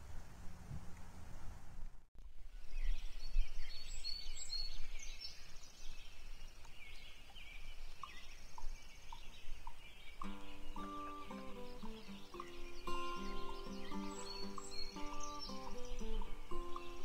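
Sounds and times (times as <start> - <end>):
small birds chirping and twittering: 2.4 - 17.0.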